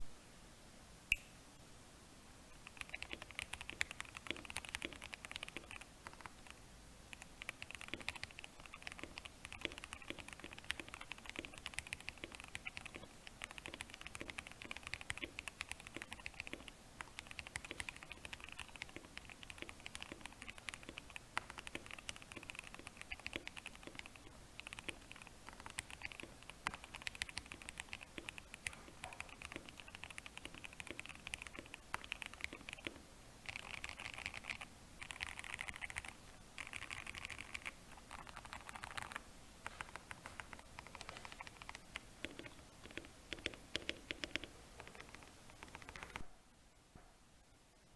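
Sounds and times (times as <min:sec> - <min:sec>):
mechanical keyboard typing: 0:02.6 - 0:39.2, 0:39.8 - 0:46.2.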